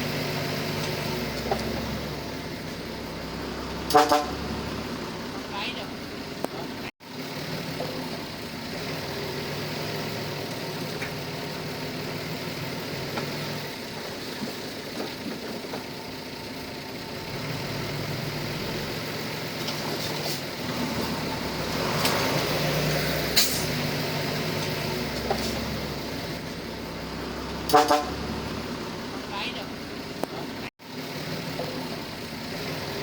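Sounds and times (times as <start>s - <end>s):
diesel engine running at low revs: 0.0s - 33.0s.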